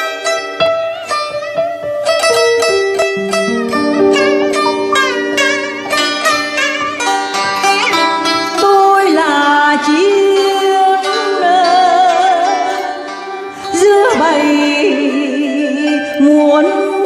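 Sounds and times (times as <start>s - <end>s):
plucked zither music: 0.0s - 17.0s.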